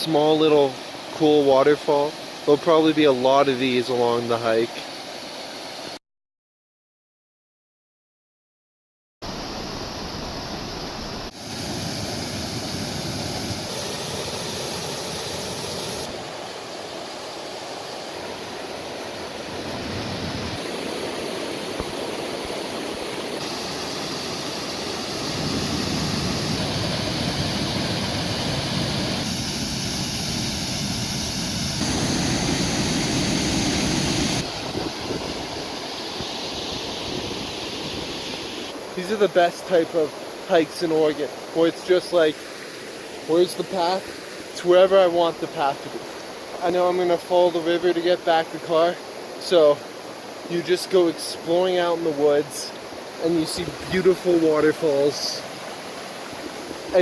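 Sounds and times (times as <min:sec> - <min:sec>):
creek water rushing over waterfalls: 0:00.0 - 0:06.0, 0:09.2 - 0:57.0.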